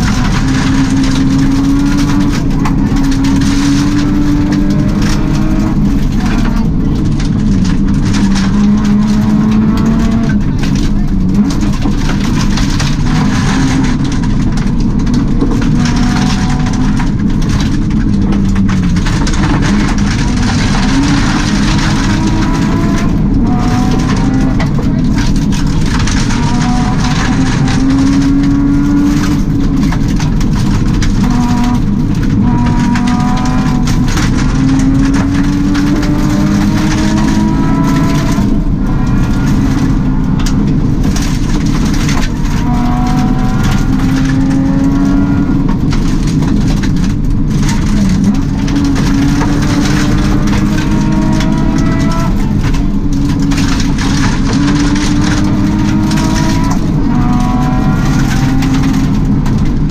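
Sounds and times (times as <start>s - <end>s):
rally car engine revving: 0.0s - 59.9s
tyre and gravel road noise: 0.0s - 59.9s.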